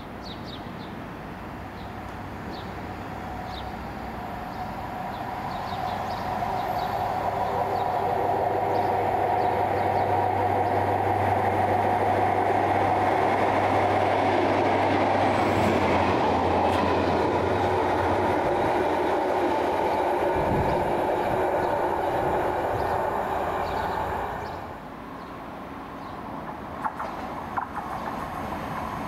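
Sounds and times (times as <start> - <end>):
diesel train engine drone: 0.0 - 29.0
train wheels on rails: 0.0 - 29.0.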